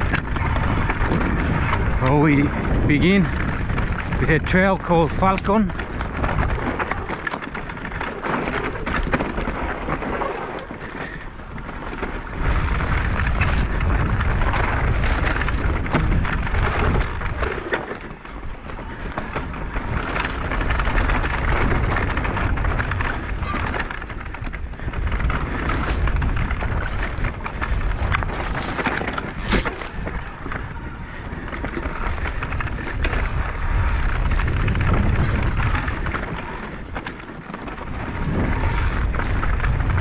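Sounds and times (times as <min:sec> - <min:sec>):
bike rattling over stones: 0:00.0 - 0:40.0
bike tyres rolling over gravel: 0:00.0 - 0:40.0
wind buffeting microphone: 0:00.0 - 0:40.0.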